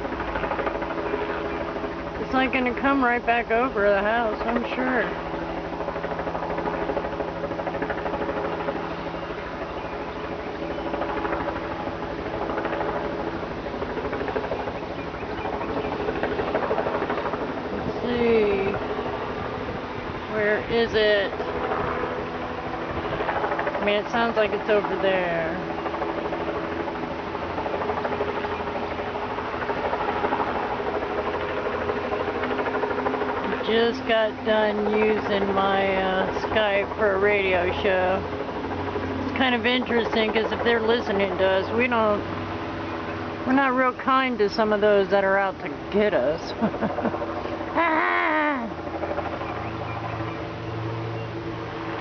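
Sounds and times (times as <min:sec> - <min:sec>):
helicopter rotor beating: 0:00.0 - 0:52.0.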